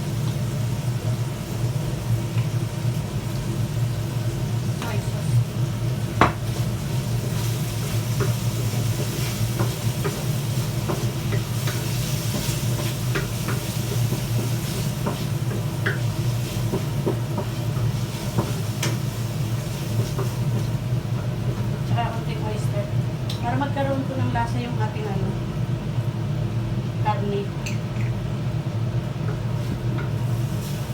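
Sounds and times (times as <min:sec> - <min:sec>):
meat sizzling in a pan: 0:00.0 - 0:23.4, 0:28.2 - 0:30.9.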